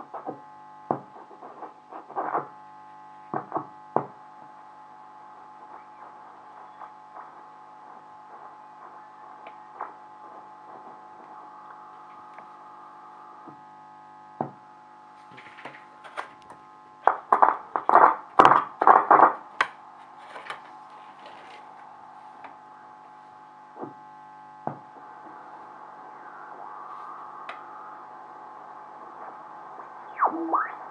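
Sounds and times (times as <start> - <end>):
radio clicks: 0.0 - 2.6, 5.6 - 13.7, 15.3 - 24.0, 24.7 - 30.9
loud radio crackling: 0.0 - 30.9
radio mains hum and hiss: 0.0 - 30.9.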